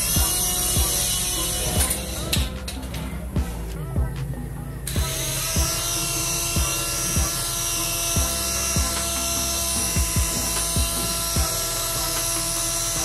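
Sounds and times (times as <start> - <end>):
music with kick-drum beat: 0.0 - 13.0.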